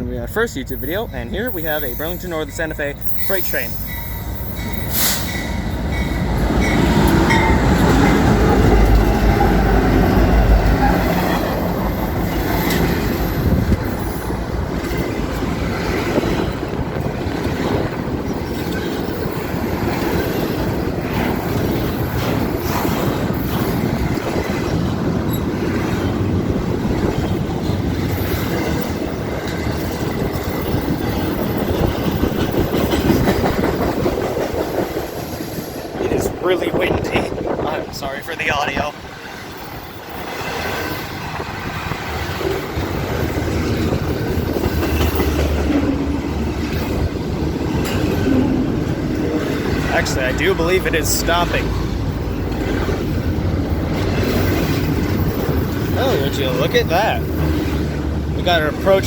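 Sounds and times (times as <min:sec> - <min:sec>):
freight train cars rattling: 0:00.0 - 0:59.0
wheels clicking over rail joints: 0:00.8 - 0:59.0
wind buffeting microphone: 0:05.3 - 0:59.0.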